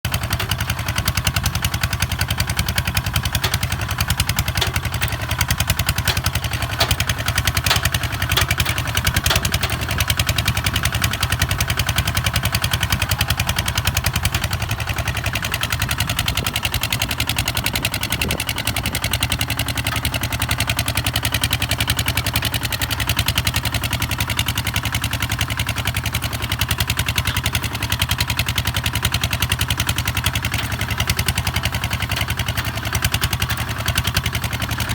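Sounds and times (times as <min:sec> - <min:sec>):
diesel engine knocking: 0:00.1 - 0:34.9.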